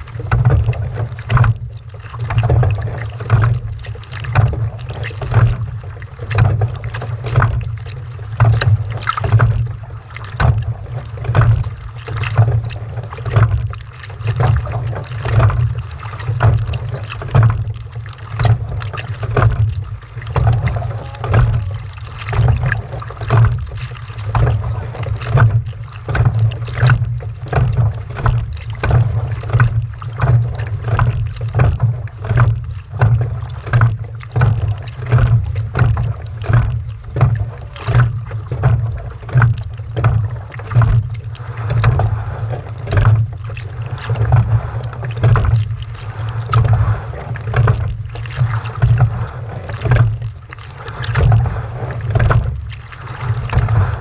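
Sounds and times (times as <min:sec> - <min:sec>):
low rumble: 0:00.0 - 0:54.0
paddle strokes splashing water: 0:00.0 - 0:54.0.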